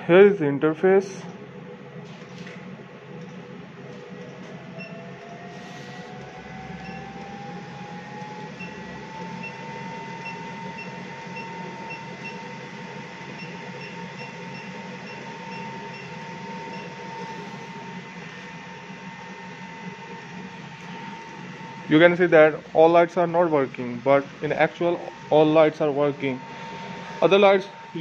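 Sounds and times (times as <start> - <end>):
cooling fan whirring: 0.0 - 28.0.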